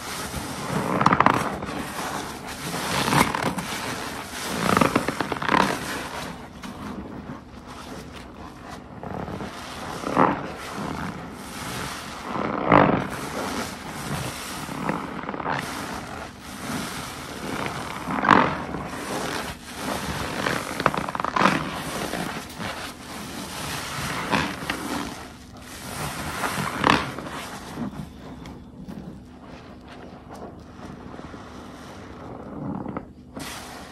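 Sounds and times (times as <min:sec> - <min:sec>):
wet sponge squelching: 0:00.0 - 0:33.9.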